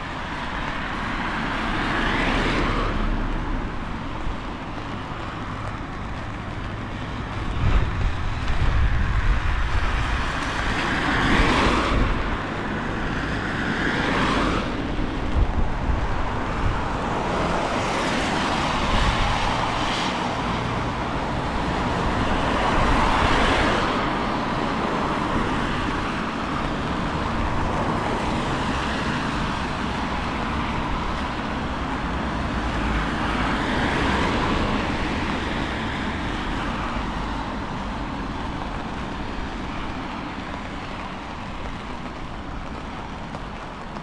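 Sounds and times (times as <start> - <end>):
vehicles passing with tyre hiss: 0.0 - 44.0
wind rumble on microphone: 0.0 - 44.0.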